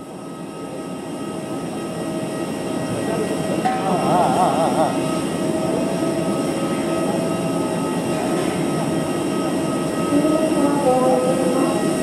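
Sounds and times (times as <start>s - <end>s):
high engine whine: 0.0s - 12.0s
jet engines rushing: 0.0s - 12.0s.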